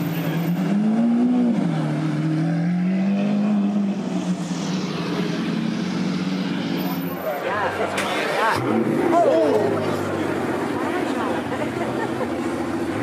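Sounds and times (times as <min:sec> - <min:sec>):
sports car engine pulling away: 0:00.0 - 0:13.0.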